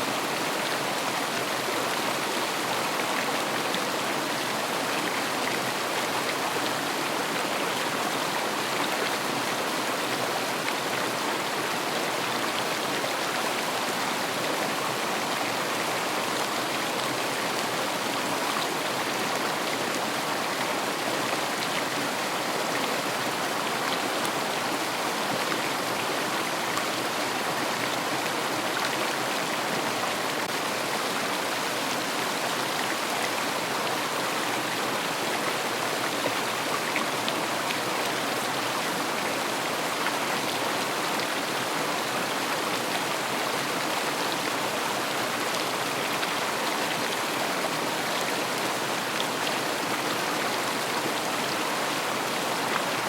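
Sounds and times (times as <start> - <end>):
river water flowing over stones: 0.0 - 53.0.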